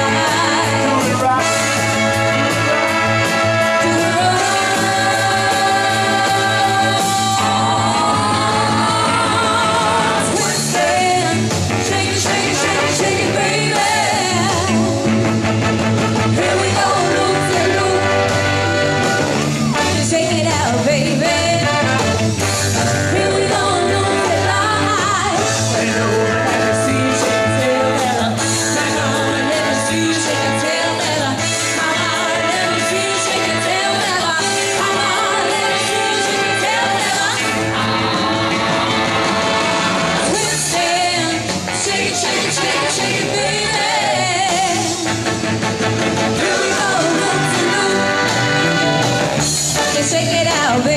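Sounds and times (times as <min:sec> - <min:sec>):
person singing pop song: 0:00.0 - 0:15.2, 0:16.2 - 0:45.3, 0:46.2 - 0:49.1, 0:49.7 - 0:50.9
backing track with steady beat: 0:00.0 - 0:50.9.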